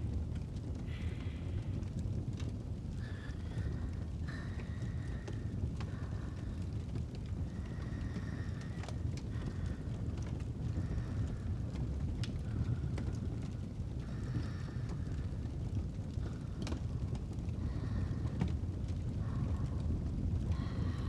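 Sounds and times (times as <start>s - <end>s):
fire crackling pops: 0.0s - 21.0s
low rumble of burning logs: 0.0s - 21.0s
soft slow breathing: 0.3s - 21.0s.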